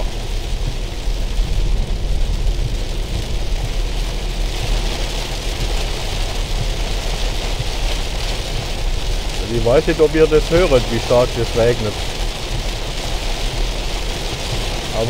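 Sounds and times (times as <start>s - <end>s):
car rumbling on road: 0.0s - 15.0s
heavy rain on car roof: 0.0s - 15.0s.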